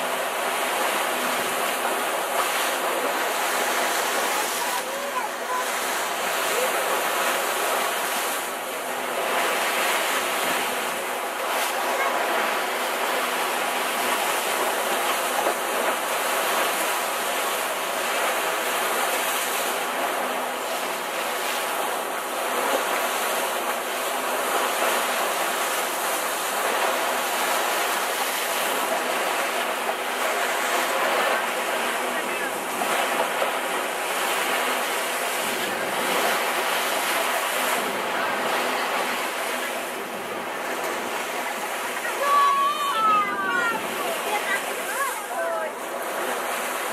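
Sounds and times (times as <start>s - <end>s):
water rushing along a hull: 0.0s - 46.9s.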